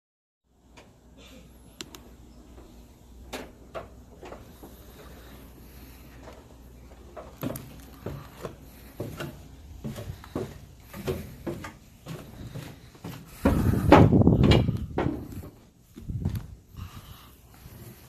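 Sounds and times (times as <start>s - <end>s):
footsteps walking down stairs: 2.5s - 18.0s.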